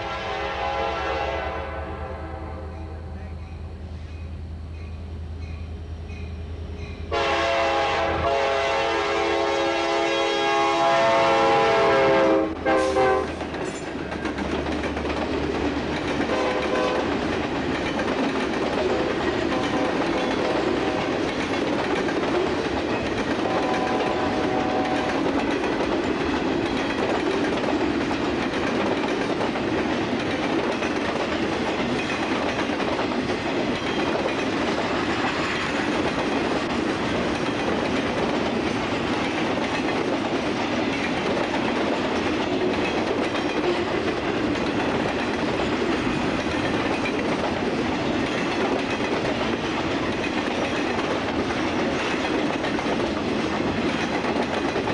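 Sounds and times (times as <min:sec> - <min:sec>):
freight train cars rolling past: 0:00.0 - 0:54.9.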